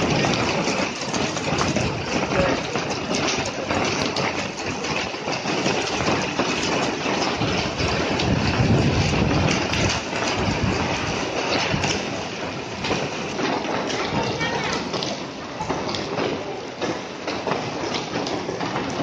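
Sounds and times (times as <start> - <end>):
heavy rain and hail falling: 0.0 - 19.0.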